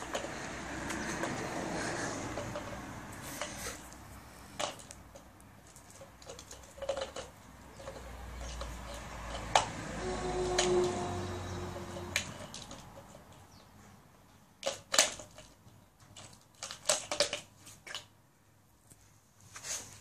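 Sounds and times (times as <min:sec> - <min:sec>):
ball knocking and scraping on concrete: 0:00.0 - 0:18.2.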